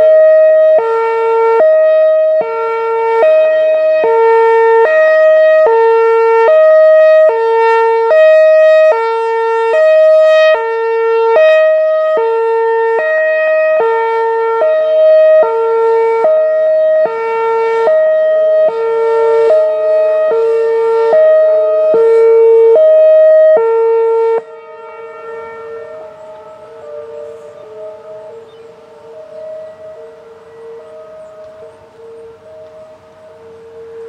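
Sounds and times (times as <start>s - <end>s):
hi-lo warning siren: 0.0s - 34.0s.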